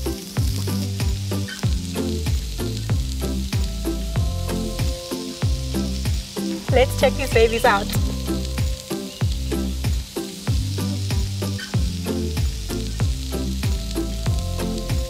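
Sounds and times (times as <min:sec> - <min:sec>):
fruit sizzling on a grill: 0:00.0 - 0:15.0
music with steady beat and bass: 0:00.0 - 0:15.0.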